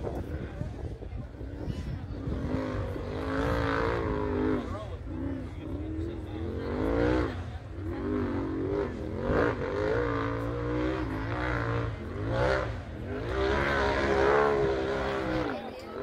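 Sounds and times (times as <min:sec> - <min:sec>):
buggy engine revving hard: 0:02.2 - 0:16.0.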